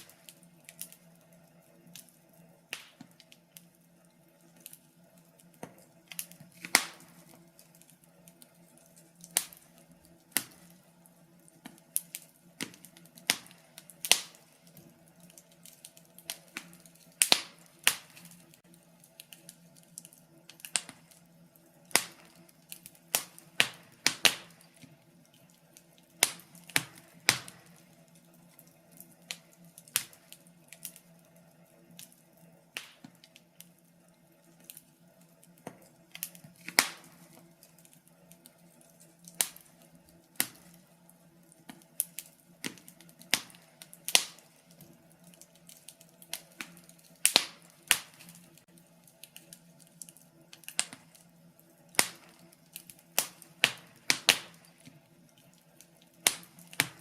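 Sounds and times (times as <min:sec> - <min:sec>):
faint steady hum: 0:00.0 - 0:57.0
wood fire crackling: 0:00.0 - 0:57.0.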